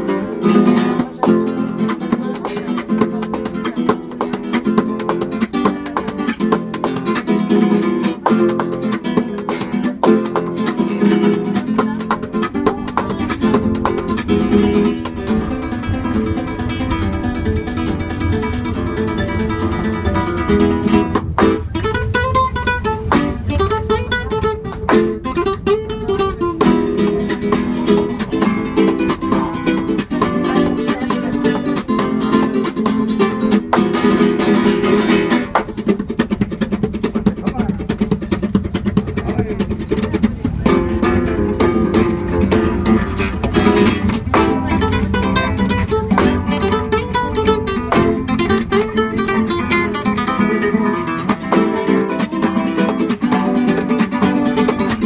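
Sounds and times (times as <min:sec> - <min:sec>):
flamenco guitar playing: 0:00.0 - 0:55.0
tram rumbling: 0:00.0 - 0:55.0.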